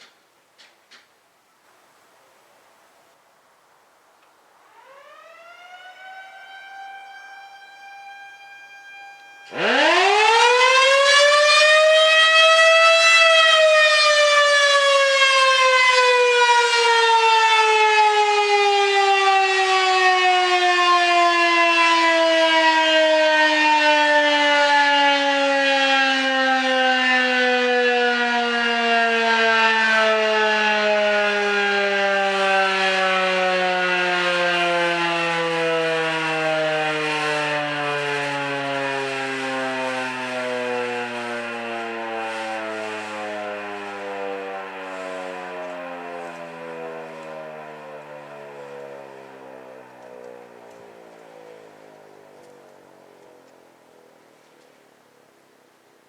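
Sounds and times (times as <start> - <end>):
warning siren winding down: 4.6 - 53.7.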